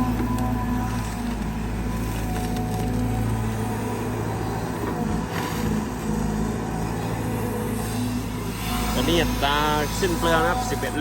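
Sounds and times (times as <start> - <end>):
excavator diesel engine running: 0.0 - 11.0
hydraulic pump whine: 0.0 - 11.0.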